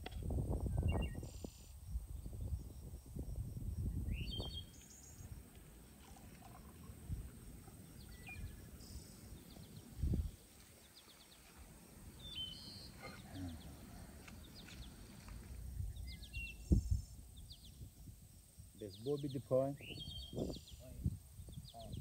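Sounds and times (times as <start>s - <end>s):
small birds chirping and trilling: 0.7s - 2.8s, 3.9s - 7.0s, 7.7s - 18.1s, 18.8s - 22.0s.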